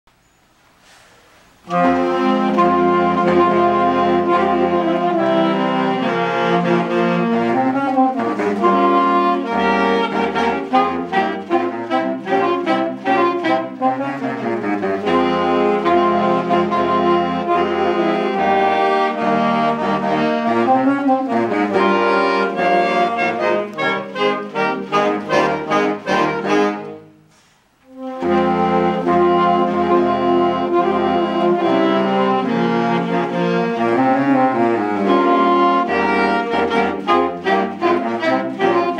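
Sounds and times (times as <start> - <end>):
saxophone choir playing: 1.6 - 38.9.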